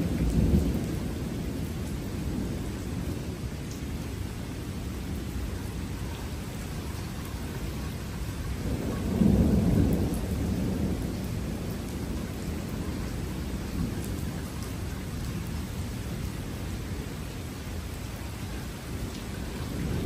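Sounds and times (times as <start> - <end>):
thunder rumbling: 0.0 - 17.9, 18.7 - 20.0
steady rain: 0.0 - 20.0.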